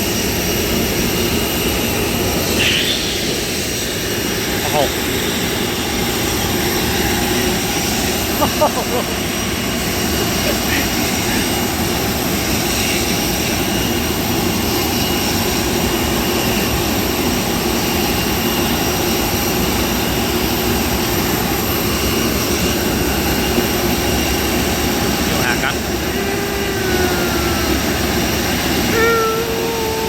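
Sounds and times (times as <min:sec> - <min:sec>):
jet engine drone in cabin: 0:00.0 - 0:30.0.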